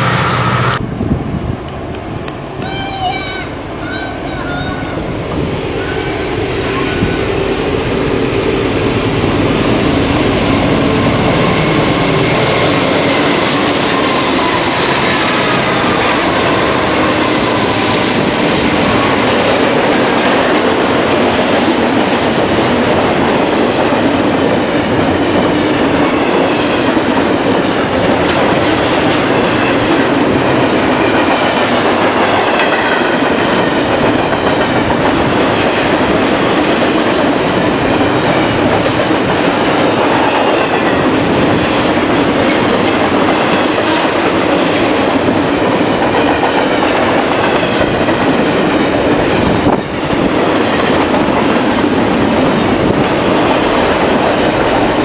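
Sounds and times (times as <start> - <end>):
steel wheels rolling on rail: 0.0 - 55.0.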